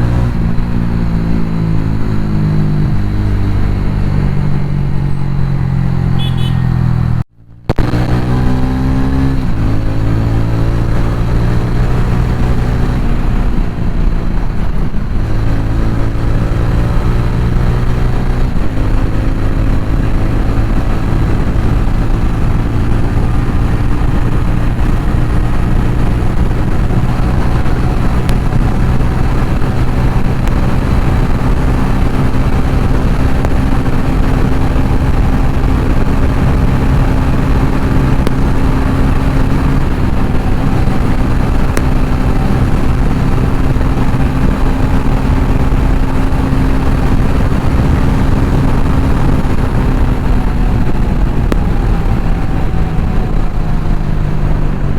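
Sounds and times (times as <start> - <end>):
motorcycle engine at high speed: 0.0 - 54.9
wind rushing over microphone: 0.0 - 54.9.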